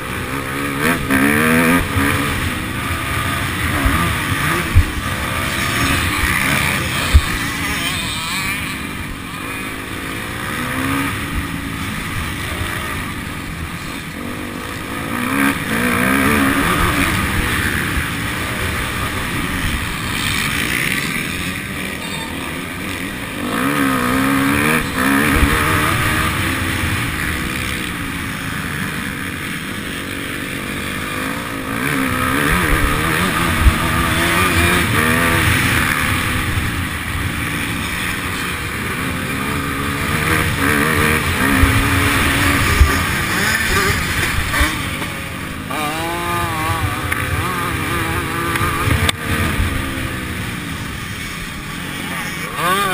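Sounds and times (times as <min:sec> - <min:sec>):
motocross bike engine revving: 0:00.0 - 0:52.9.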